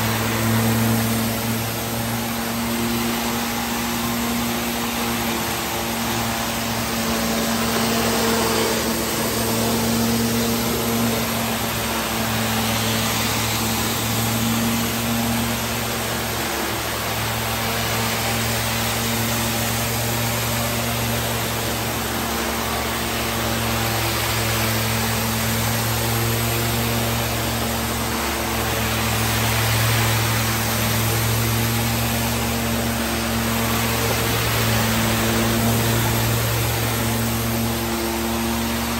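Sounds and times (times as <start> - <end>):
hissing water spray and vacuum: 0.0 - 38.9
machine hum: 0.0 - 38.9.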